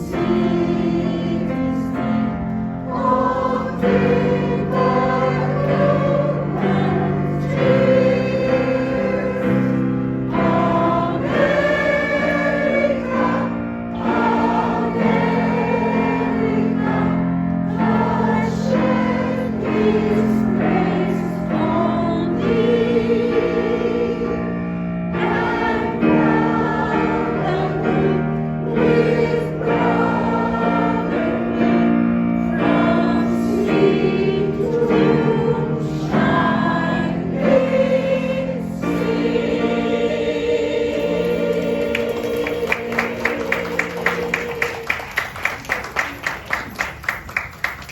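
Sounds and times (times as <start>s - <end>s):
choir singing: 0.0s - 45.6s.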